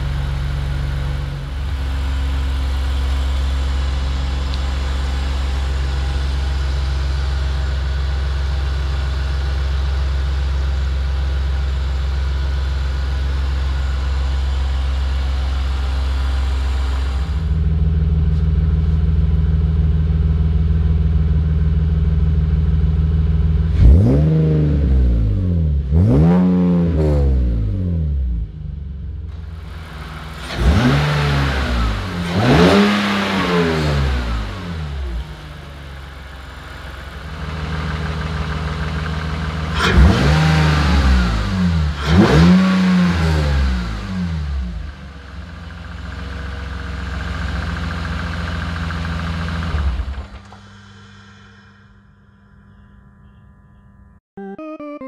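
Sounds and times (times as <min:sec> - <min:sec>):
car engine idling and revving: 0:00.0 - 0:51.3.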